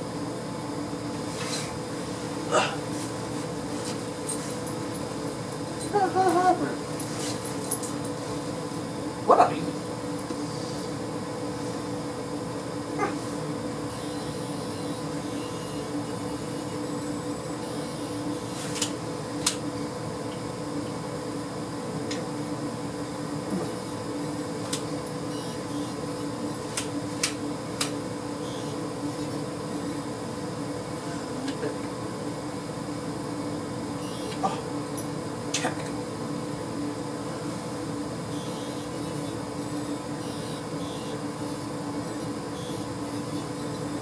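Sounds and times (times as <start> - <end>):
steady tonal hum: 0.0 - 44.0.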